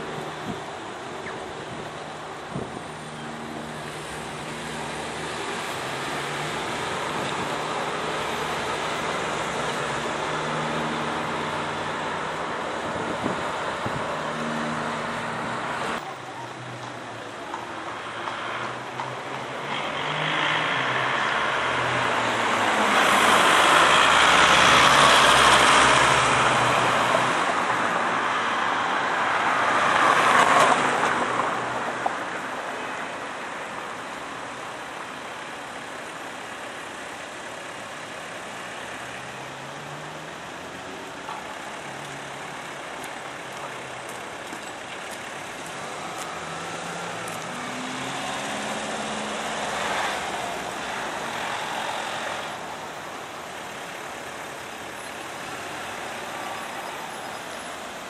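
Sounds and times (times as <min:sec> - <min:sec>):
traffic noise: 0:00.0 - 0:58.0.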